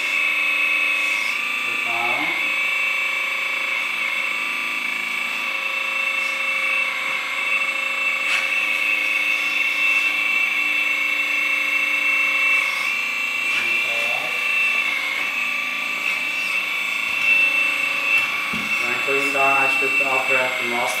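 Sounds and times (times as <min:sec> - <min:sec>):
hydraulic pump whining: 0:00.0 - 0:21.0.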